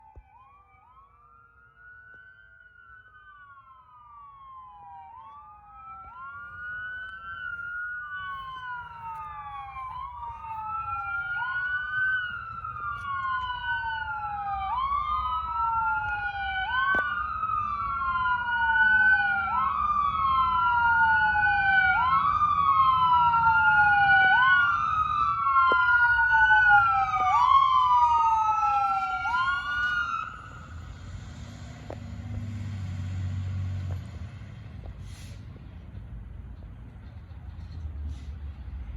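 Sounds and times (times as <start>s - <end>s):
fire truck siren wailing: 0.0s - 35.3s
truck engine and road rumble: 0.0s - 38.9s.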